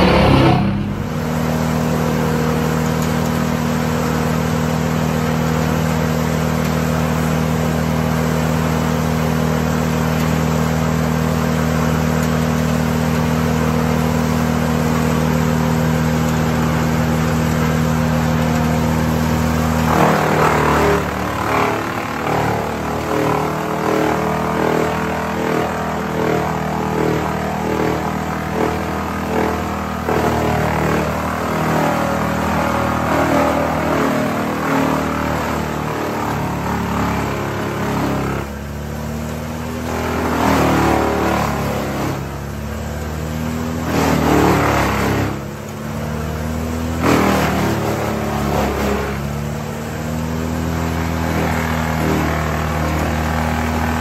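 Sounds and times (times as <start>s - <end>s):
chipper crunching branches: 0.0s - 54.0s
wood chipper engine running: 0.0s - 54.0s.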